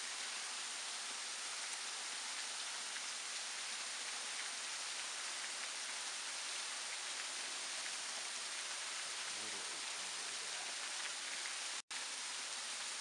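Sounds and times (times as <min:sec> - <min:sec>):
waterfall splashing on rocks: 0:00.0 - 0:13.0.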